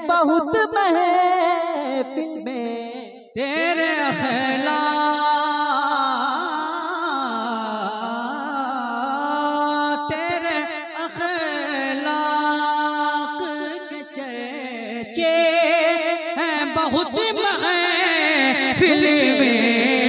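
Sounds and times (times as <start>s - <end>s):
amplified man singing: 0.0s - 20.0s.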